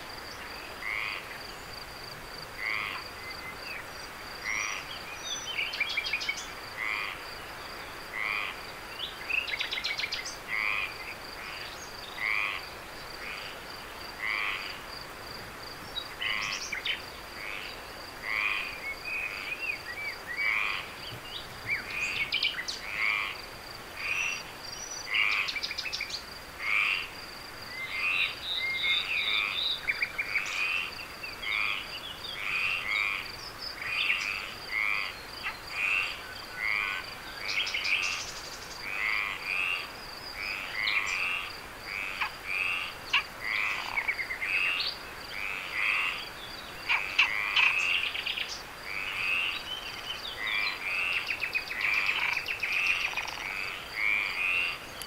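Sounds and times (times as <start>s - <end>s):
frogs croaking: 0.0s - 55.0s.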